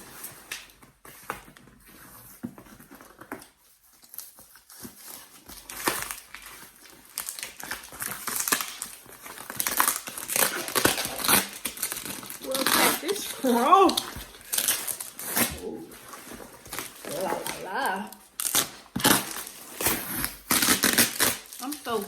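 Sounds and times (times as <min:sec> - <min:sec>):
packaging crinkling and rustling: 0:00.0 - 0:22.0.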